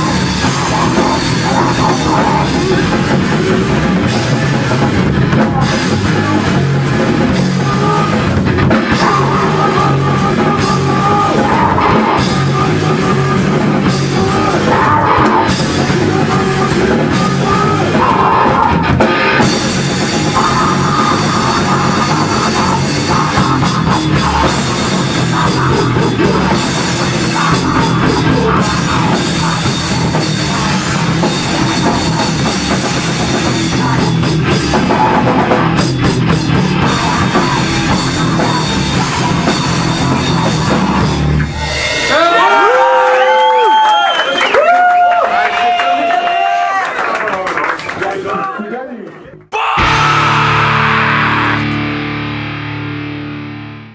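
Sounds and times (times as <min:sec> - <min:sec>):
live rock band playing: 0:00.0 - 0:44.7, 0:49.8 - 0:53.9.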